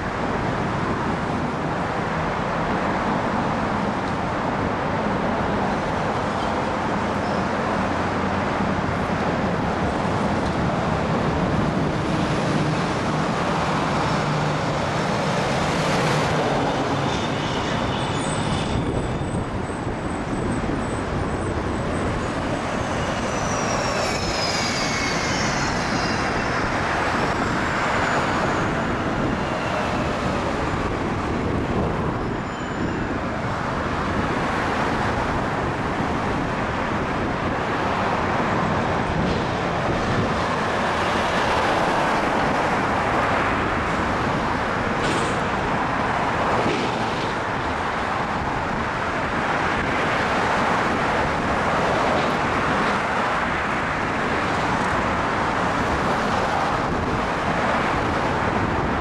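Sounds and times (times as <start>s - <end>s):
vehicles driving past: 0.0s - 59.0s.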